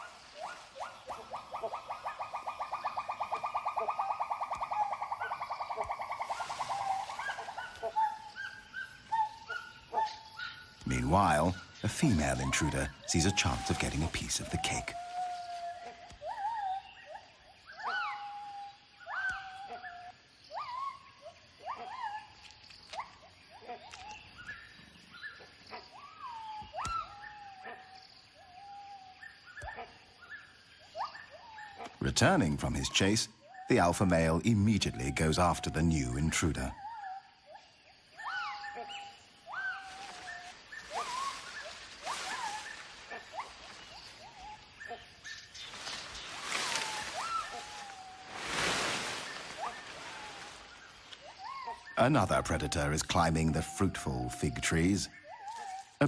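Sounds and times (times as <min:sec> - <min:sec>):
rustling leaves and branches: 0:00.0 - 0:33.2, 0:33.8 - 0:56.0.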